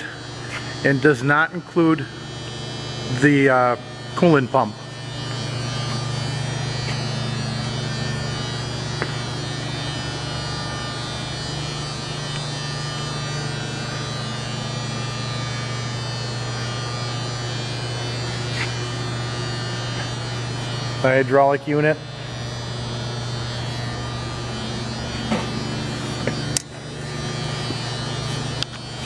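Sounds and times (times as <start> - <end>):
low electrical hum: 0.0 - 29.0
faint buzzing: 2.0 - 29.0.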